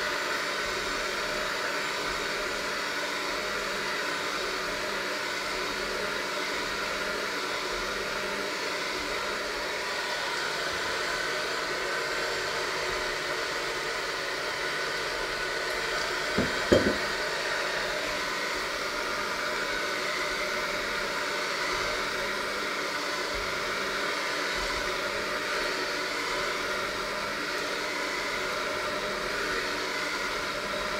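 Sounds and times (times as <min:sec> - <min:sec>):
electric hand mixer running: 0:00.0 - 0:30.9.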